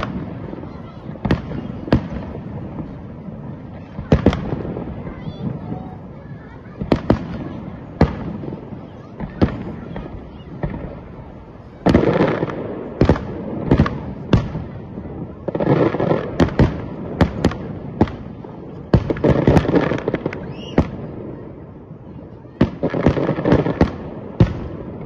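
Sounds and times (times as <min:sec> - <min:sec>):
firework crackle: 0:00.0 - 0:25.0.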